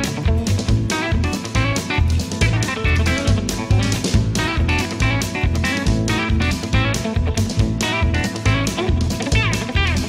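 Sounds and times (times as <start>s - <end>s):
guitar-led music with beat: 0.0s - 10.0s.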